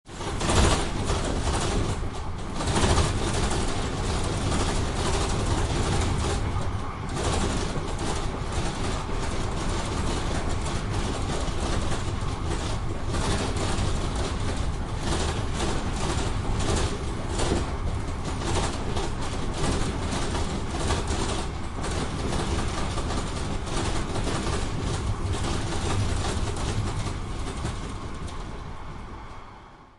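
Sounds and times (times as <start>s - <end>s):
tram doors rattling: 0.1s - 29.4s
tram rumbling in motion: 0.1s - 29.9s.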